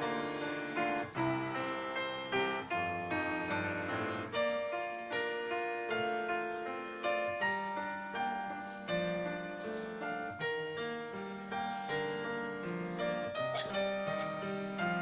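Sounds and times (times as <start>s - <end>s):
slow solo piano melody: 0.0s - 15.0s.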